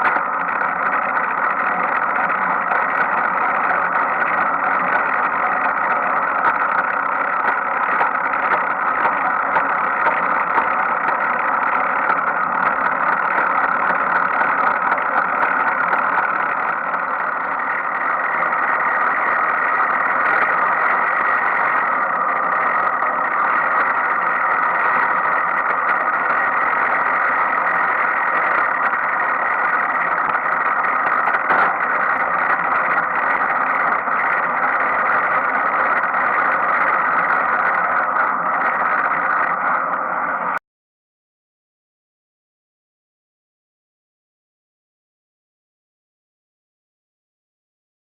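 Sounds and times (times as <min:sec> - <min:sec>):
bicycle freewheel whirring: 0:00.0 - 0:40.5.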